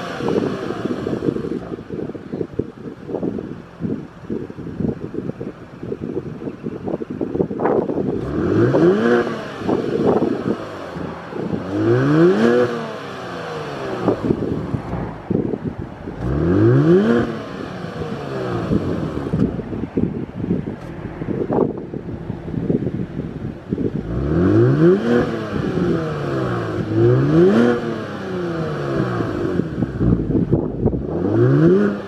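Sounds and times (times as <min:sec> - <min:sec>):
car engine revving: 0:00.0 - 0:02.1, 0:07.9 - 0:32.0.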